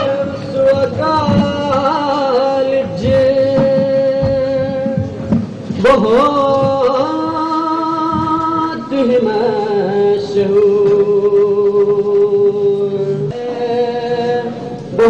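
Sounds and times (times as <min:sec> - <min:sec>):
man singing held notes: 0:00.0 - 0:15.0.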